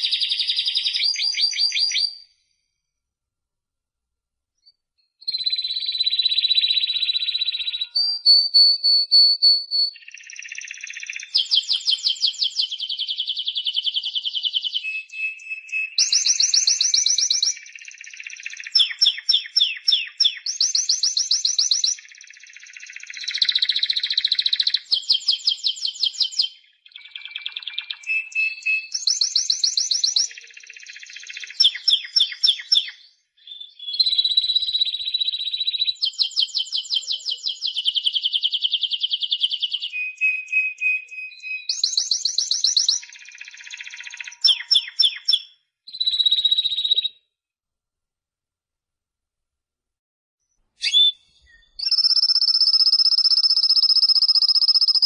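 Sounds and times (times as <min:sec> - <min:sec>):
canary singing trills: 0:00.0 - 0:02.3, 0:05.2 - 0:47.1, 0:50.8 - 0:55.0.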